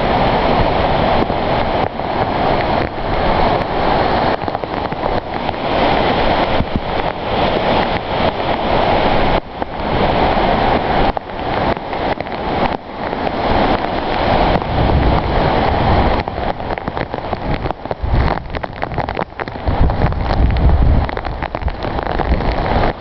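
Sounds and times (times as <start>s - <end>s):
gusting wind: 0.0s - 23.0s
heavy rain: 0.0s - 23.0s
raindrop hits: 0.0s - 23.0s
wind buffeting microphone: 0.0s - 23.0s.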